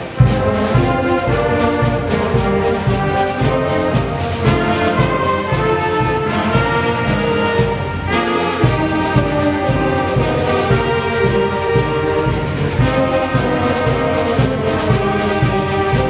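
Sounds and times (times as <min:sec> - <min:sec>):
concert band playing chords: 0:00.0 - 0:16.0.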